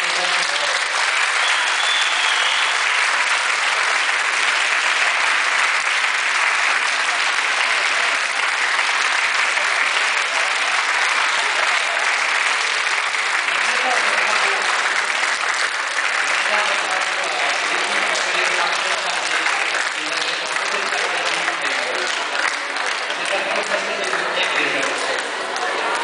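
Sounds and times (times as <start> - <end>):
crowd applause: 0.0 - 26.0.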